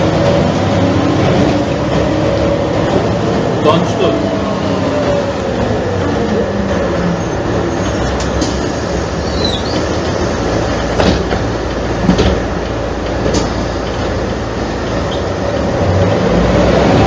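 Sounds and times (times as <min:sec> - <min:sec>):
diesel bus engine idling: 0:00.0 - 0:17.0.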